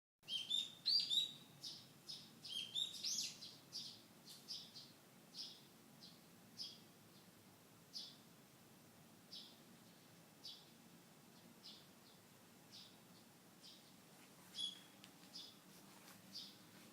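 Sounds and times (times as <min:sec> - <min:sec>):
songbirds chirping: 0:00.2 - 0:16.9.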